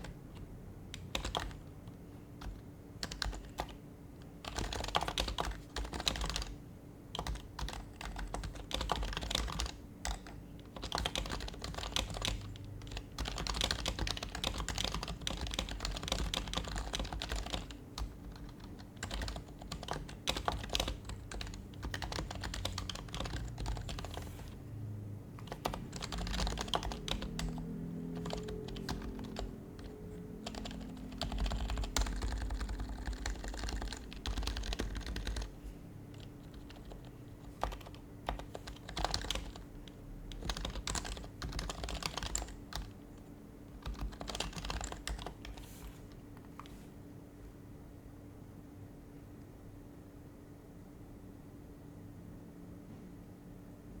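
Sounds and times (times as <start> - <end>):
soft keyboard typing: 0.0 - 24.6, 25.4 - 46.8.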